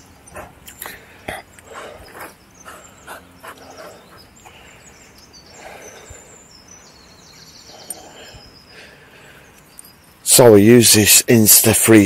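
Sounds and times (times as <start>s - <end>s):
faint high bird song: 0.0s - 12.0s.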